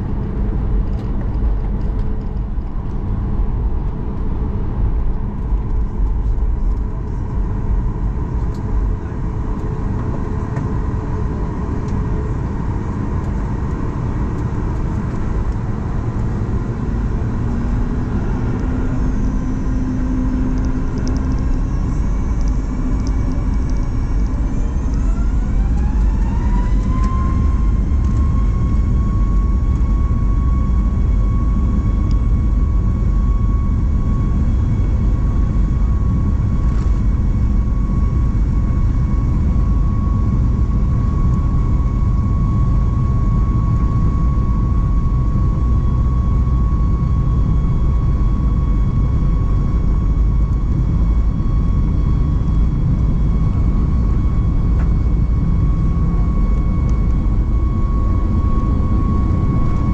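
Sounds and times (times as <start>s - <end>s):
deep rumble of plane rolling: 0.0s - 59.9s
jet engine whine: 0.0s - 59.9s.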